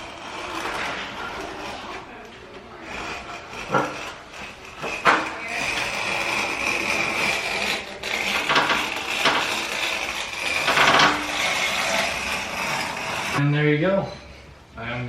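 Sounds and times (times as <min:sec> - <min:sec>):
knife scraping through wallpaper: 0:00.0 - 0:13.4.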